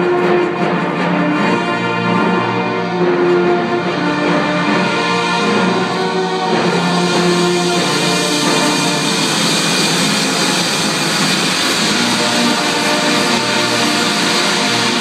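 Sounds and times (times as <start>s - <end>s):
brass band playing: 0.0s - 15.0s
steady noisy wash: 2.8s - 15.0s.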